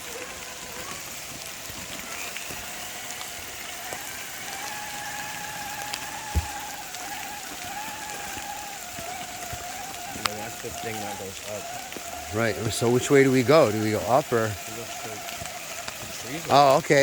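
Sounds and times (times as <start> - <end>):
rain on ground and leaves: 0.0 - 17.0.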